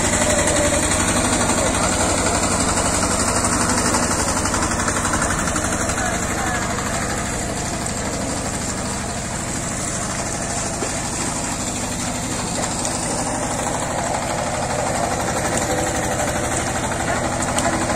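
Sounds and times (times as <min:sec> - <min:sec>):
power tiller engine running: 0:00.0 - 0:17.9.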